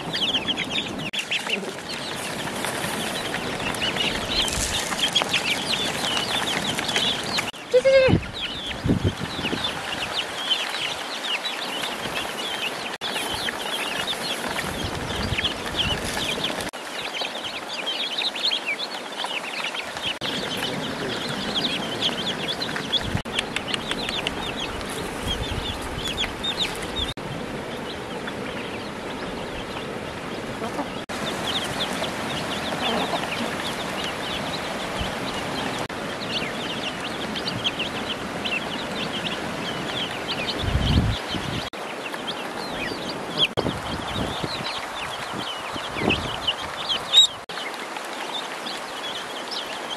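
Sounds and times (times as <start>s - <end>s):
ducklings and chicks peeping: 0.0s - 49.9s.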